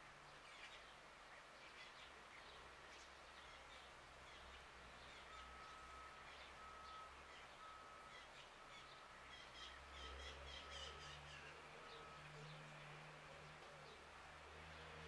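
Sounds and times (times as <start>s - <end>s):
birds chirping: 0.3s - 15.0s.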